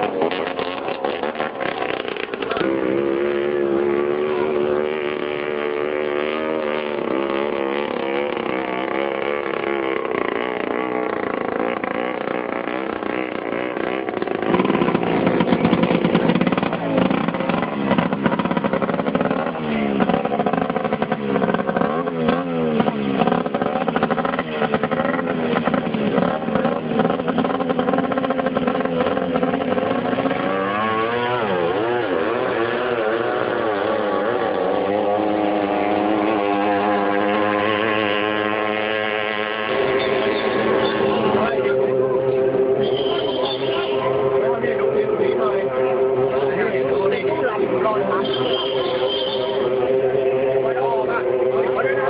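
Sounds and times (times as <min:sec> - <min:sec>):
racing boat engines revving: 0:00.0 - 0:52.0.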